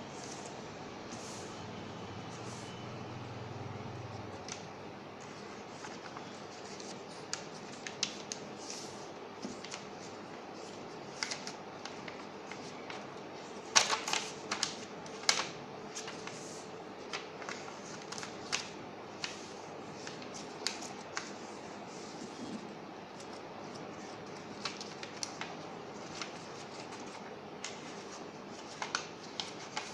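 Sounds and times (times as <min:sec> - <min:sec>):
paper being folded and creased: 0:05.2 - 0:22.6, 0:23.2 - 0:29.9.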